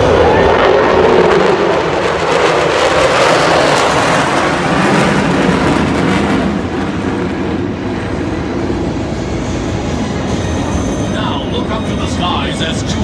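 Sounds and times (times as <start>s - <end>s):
fighter jets roaring overhead: 0.0s - 13.0s.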